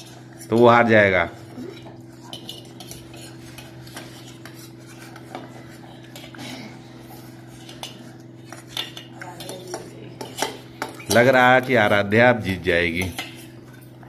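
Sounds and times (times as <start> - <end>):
cutlery clinking on steel plates: 0.0 - 14.0.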